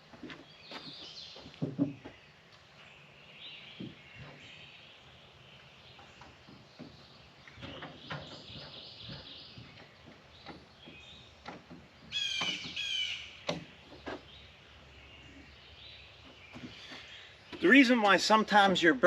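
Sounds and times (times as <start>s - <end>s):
bird calling: 0.3s - 18.2s.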